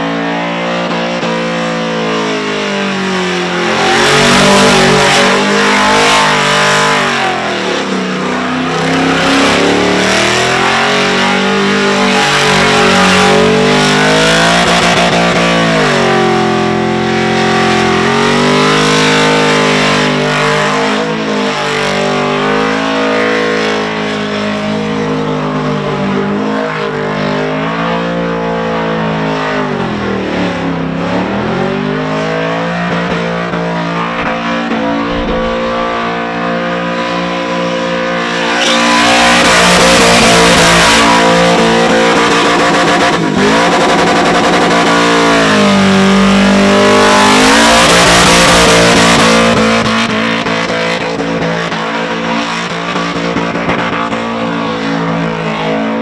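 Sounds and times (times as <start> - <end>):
car engine revving: 0.0 - 24.8, 29.0 - 55.8.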